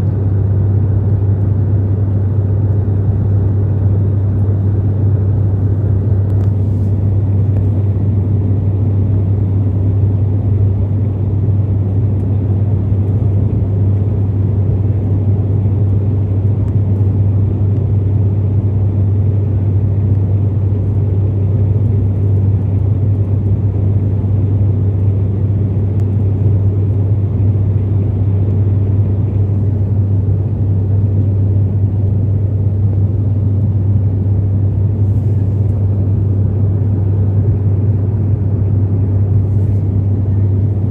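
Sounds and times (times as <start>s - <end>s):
airliner engines droning in cabin: 0.0s - 40.9s.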